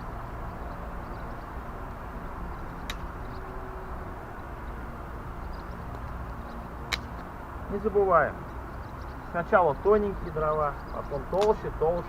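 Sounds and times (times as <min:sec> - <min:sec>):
campfire crackling: 0:00.0 - 0:12.0
low outdoor rumble: 0:00.0 - 0:12.0.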